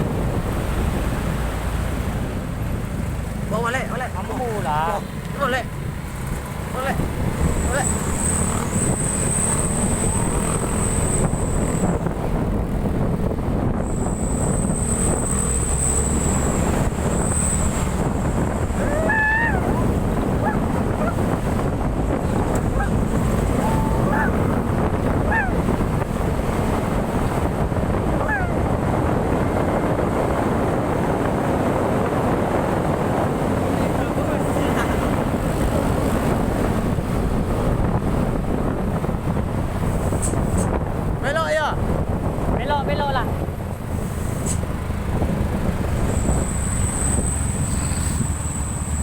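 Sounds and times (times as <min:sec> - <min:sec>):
truck rumbling on the move: 0:00.0 - 0:49.0
wind buffeting microphone: 0:00.0 - 0:49.0.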